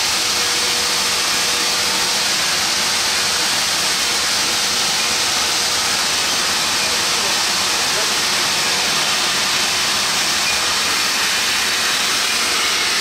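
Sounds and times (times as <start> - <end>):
steam venting hiss: 0.0 - 13.0.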